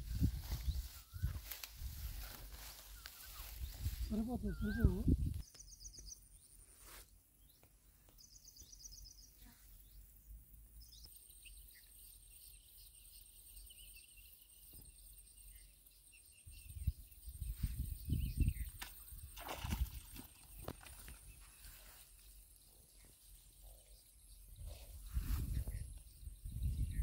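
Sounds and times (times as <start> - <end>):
faint insect chirping: 0.0 - 27.0.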